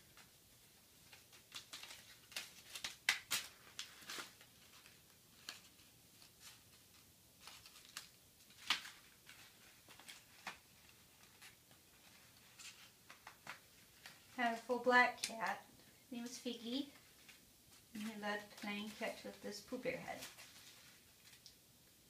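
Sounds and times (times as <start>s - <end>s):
paper ball crinkling: 0.1s - 21.7s.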